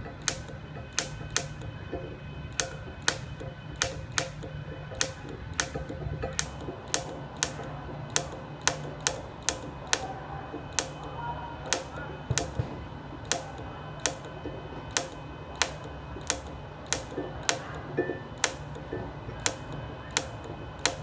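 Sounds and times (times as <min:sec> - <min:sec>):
welding arc clicking: 0:00.0 - 0:21.0.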